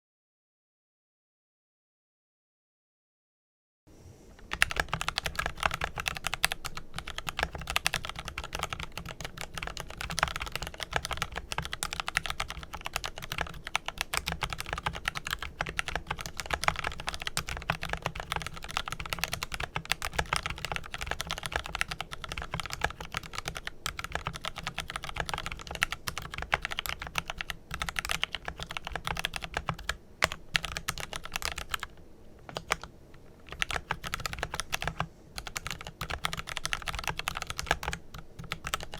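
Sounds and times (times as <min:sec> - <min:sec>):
mechanical keyboard typing: 0:04.4 - 0:38.9.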